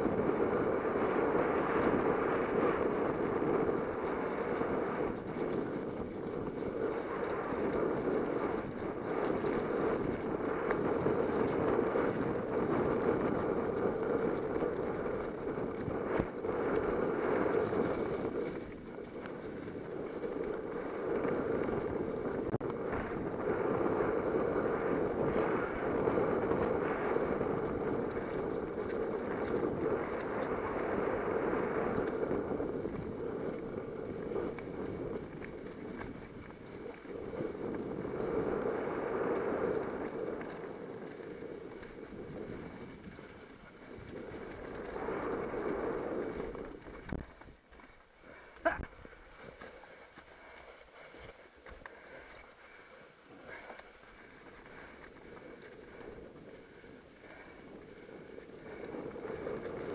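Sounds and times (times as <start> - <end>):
wind rush: 0.0 - 47.4, 53.4 - 59.9
bike tyres rumbling on dirt trail: 0.0 - 59.9.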